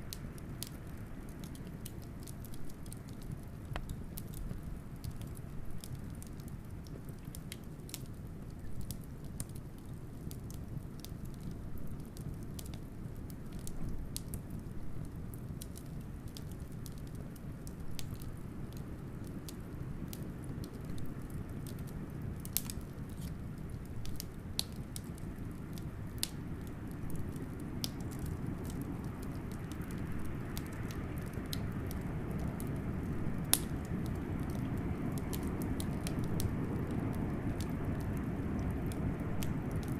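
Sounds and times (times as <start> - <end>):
low rumble of blizzard wind: 0.0 - 39.9
wood fire crackling and popping: 0.0 - 39.9.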